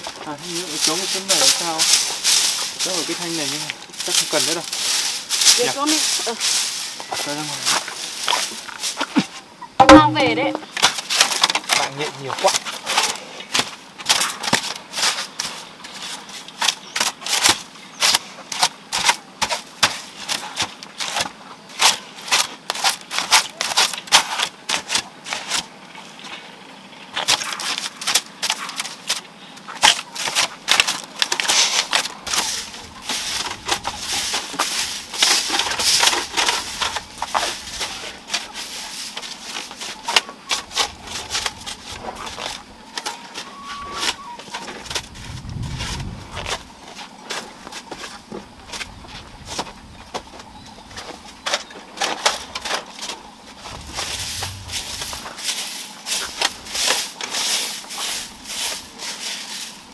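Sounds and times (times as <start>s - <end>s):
broom brushing a thatched roof: 0.0s - 11.4s, 12.1s - 25.7s, 30.0s - 49.8s, 52.0s - 59.9s.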